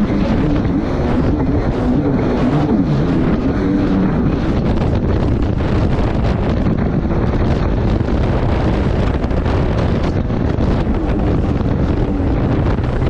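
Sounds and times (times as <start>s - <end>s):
jet ski engine: 0.0s - 13.0s
water noise: 0.0s - 13.0s
wind buffeting microphone: 0.0s - 13.0s.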